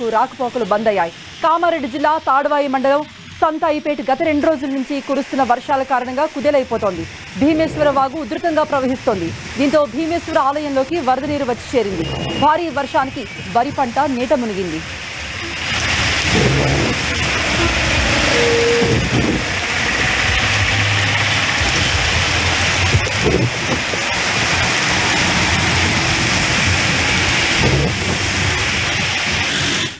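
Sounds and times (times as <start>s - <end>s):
heavy rain hiss: 0.0s - 29.9s
vehicles driving through floodwater: 0.0s - 29.9s.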